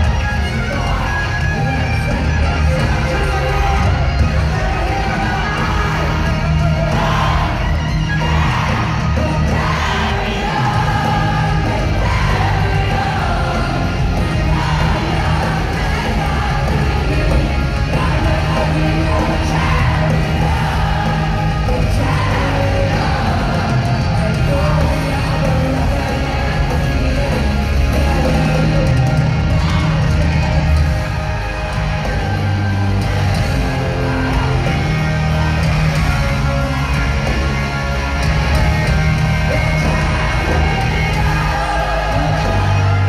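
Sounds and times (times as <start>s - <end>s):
crowd yelling and singing along: 0.0s - 43.0s
live rock band: 0.0s - 43.0s.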